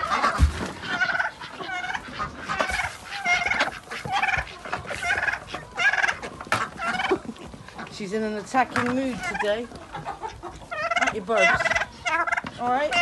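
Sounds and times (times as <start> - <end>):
turkeys gobbling: 0.0 - 13.0.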